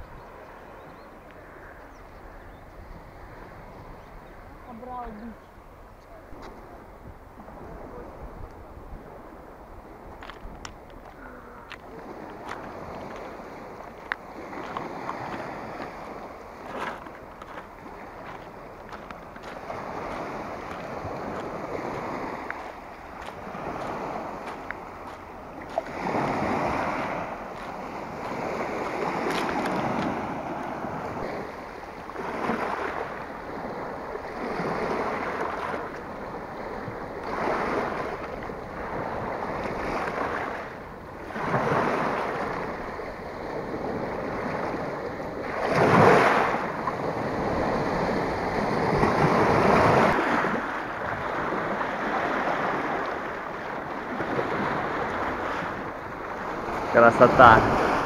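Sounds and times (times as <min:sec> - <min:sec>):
waves washing over pebbles: 0:07.3 - 0:58.0.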